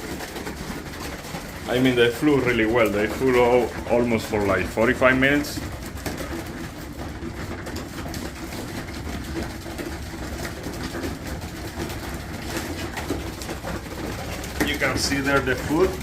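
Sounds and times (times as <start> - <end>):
pigeons pecking grain: 0.0 - 16.0.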